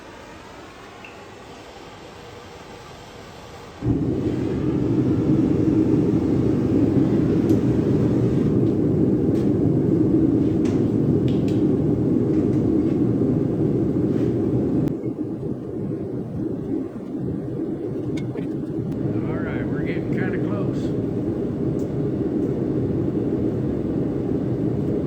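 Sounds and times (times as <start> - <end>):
forge rushing rumble: 3.8 - 25.0.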